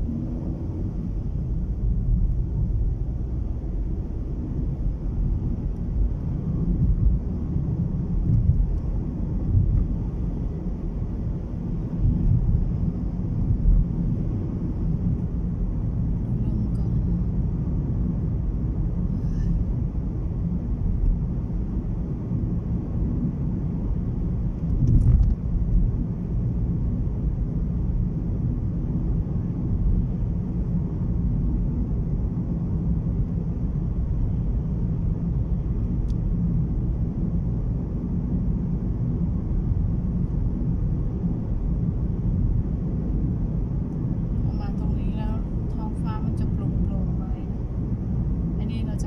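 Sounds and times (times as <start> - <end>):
car cabin road and engine rumble: 0.0 - 49.0.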